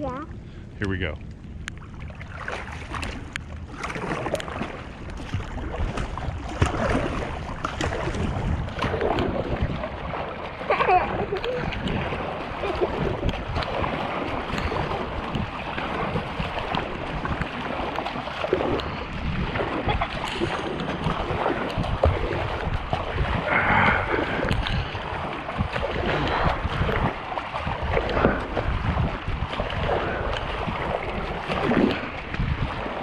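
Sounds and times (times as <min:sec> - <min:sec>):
bow wake rushing along hull: 0:00.0 - 0:33.0
wind rumbling on microphone: 0:00.0 - 0:33.0
kayak paddle splashing: 0:01.2 - 0:33.0.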